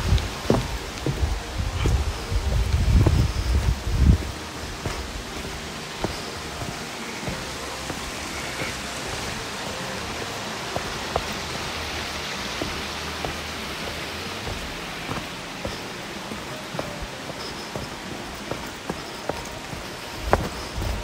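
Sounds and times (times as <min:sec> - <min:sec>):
rushing water hiss: 0:00.0 - 0:21.0.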